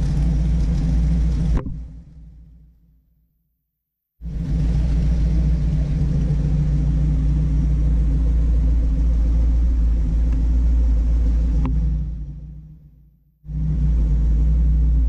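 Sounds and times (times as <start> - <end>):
truck engine idling: 0.0 - 2.6, 4.2 - 15.0.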